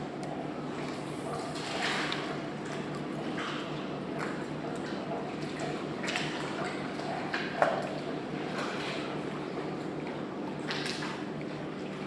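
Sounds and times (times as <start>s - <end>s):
steady low hum: 0.0s - 12.0s
water lapping and splashing: 0.0s - 12.0s.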